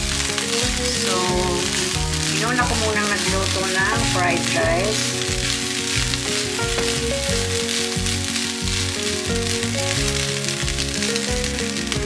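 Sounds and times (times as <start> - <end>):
background music: 0.0 - 12.0
rice sizzling in a pan: 0.0 - 12.0.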